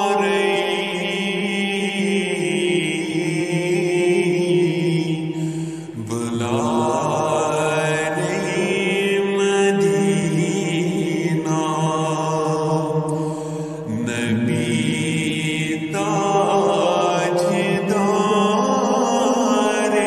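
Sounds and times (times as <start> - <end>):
person singing devotional song: 0.0 - 20.0.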